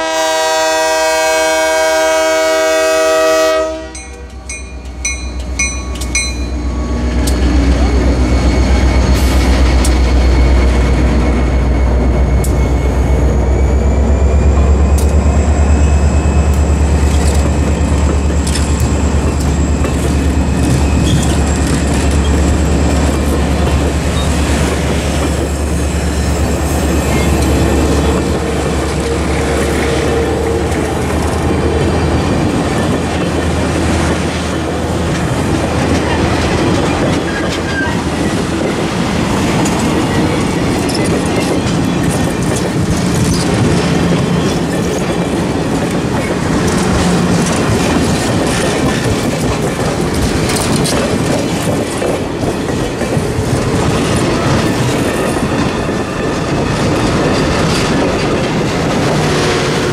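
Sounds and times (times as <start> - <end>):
diesel locomotive engine: 0.0 - 59.9
train wheels clicking over rail joints: 4.0 - 10.8, 14.3 - 59.9.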